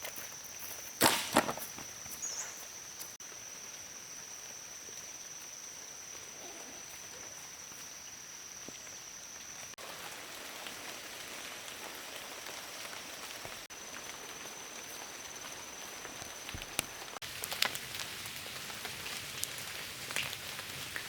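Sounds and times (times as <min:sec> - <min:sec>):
steady rain falling: 0:03.1 - 0:21.0.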